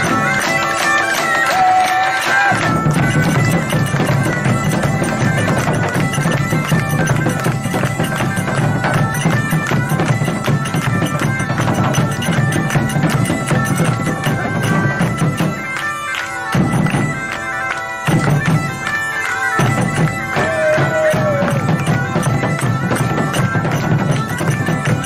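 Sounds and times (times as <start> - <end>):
hand drums beating: 0.0 - 17.4, 18.0 - 25.0
bagpipes playing dance tune: 0.0 - 25.0.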